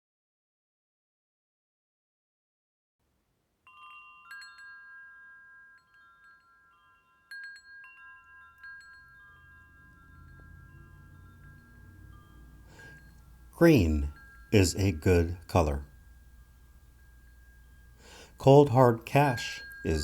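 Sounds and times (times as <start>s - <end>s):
wind chimes ringing: 3.6s - 20.0s.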